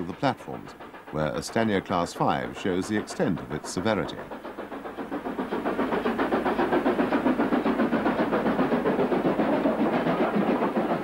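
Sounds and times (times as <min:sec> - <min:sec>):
steam locomotive exhaust beating: 0:00.0 - 0:11.0.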